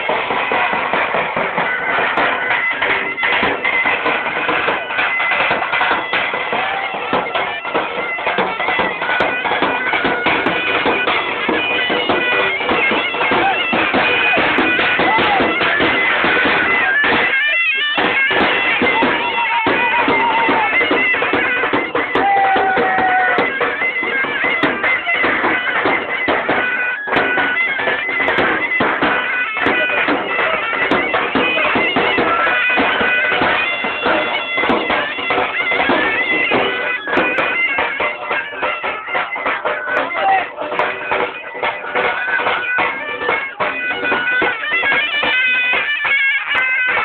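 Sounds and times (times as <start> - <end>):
bagpipe music: 0.0 - 47.0.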